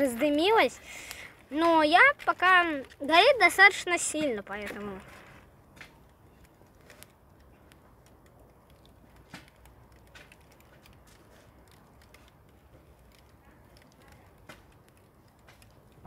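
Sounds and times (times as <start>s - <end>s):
small fire crackling: 0.0s - 16.0s.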